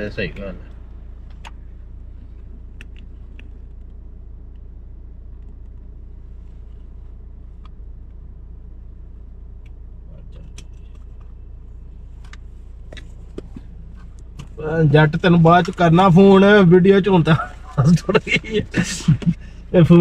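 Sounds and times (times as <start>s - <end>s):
car engine rumble from cabin: 0.0s - 20.0s
road noise: 0.0s - 20.0s.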